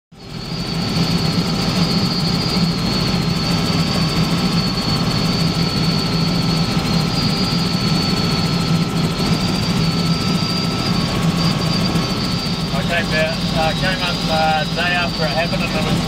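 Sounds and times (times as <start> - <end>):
helicopter rotor and engine drone: 0.1 - 16.0
high-pitched whine: 0.2 - 16.0.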